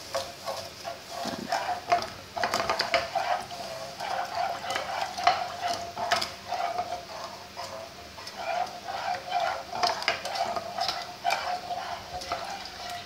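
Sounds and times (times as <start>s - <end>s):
spatula scraping frying pan: 0.0s - 13.0s.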